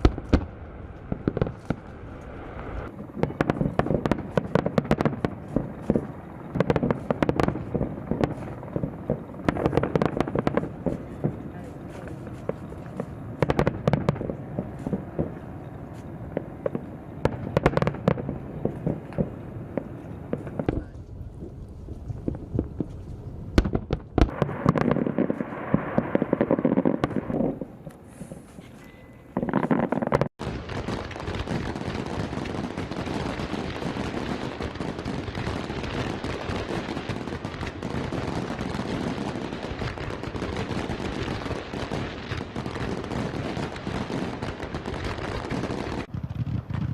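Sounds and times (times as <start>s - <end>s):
dense steady crackle: 0.0s - 27.4s, 28.1s - 46.9s
fireworks bangs: 0.0s - 46.9s.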